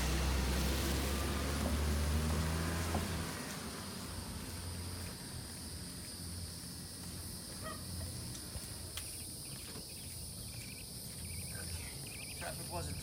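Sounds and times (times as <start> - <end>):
high insect drone: 2.6 - 13.0.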